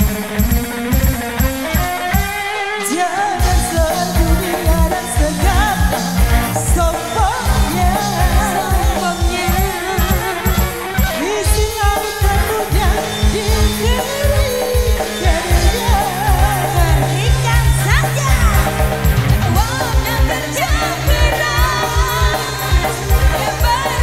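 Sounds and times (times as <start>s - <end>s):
band playing through loudspeakers: 0.0s - 24.0s
woman singing ornamented lines: 2.7s - 24.0s.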